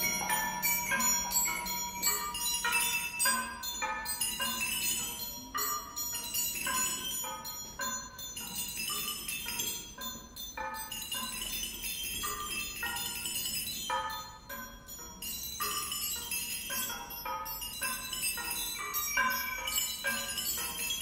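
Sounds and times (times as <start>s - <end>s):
metal percussion ringing notes: 0.0s - 21.0s.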